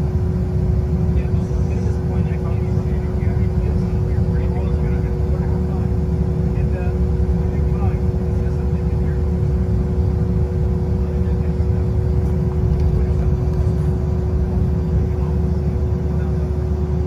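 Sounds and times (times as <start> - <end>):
jet cabin low rumble: 0.0 - 17.0
steady engine hums: 0.0 - 17.0.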